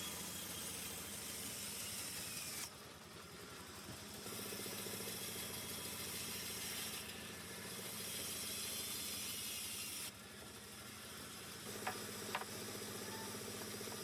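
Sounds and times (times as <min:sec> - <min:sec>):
woodworking machine hum: 0:00.0 - 0:14.0.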